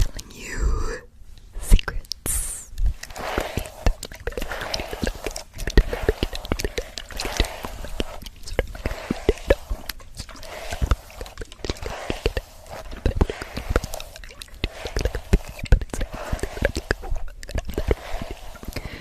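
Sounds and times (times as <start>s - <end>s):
hairbrush swishing through hair: 0.0s - 0.2s, 2.3s - 19.0s.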